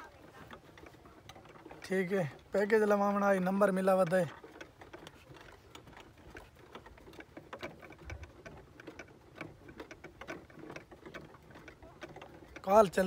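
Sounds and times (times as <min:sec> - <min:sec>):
cart clicking and clattering: 0:00.0 - 0:13.0.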